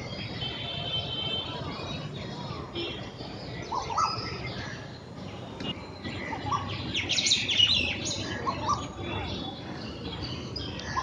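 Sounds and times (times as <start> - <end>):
birds calling with sharp notes: 0.0 - 11.0.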